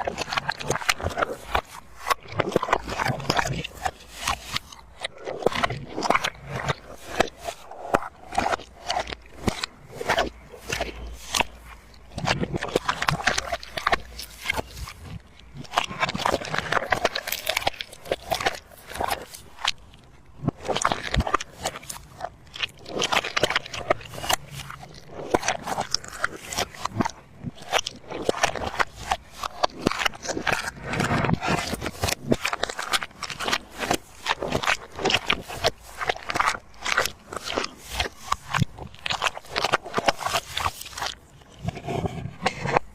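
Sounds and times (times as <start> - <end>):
dog chewing with crunching: 0.0 - 42.9.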